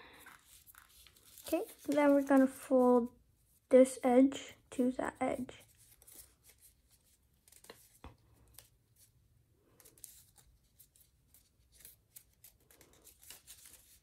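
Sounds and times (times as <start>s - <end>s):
paper rustling and crackling: 0.1s - 3.1s, 5.6s - 14.0s.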